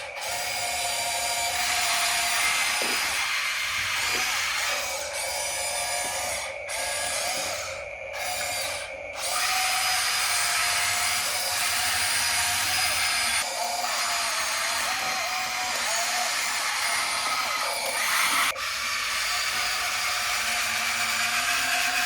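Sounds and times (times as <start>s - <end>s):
toy excavator motors whirring: 0.0s - 22.0s.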